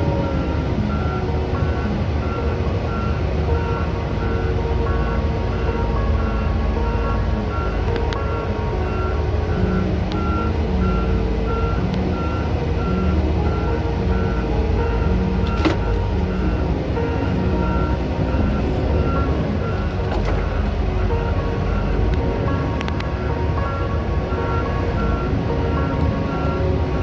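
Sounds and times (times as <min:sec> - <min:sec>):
backup alarm beeping: 0:00.0 - 0:27.0
diesel engine running: 0:00.0 - 0:27.0.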